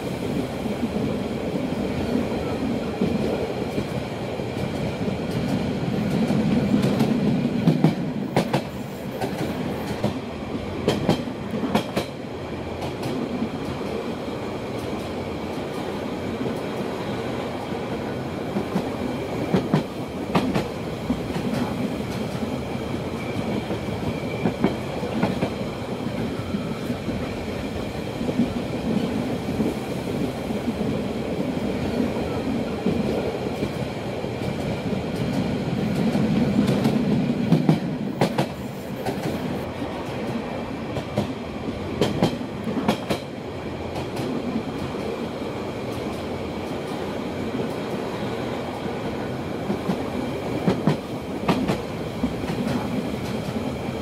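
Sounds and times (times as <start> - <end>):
rail joint clickety-clack: 0.0 - 54.0
train wheels rumbling on rail: 0.0 - 54.0.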